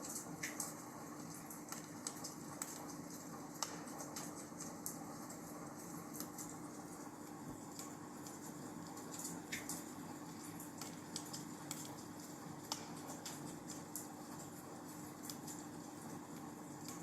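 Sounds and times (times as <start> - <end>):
faint steady hum: 0.0 - 17.0
wood fire crackling: 0.0 - 17.0.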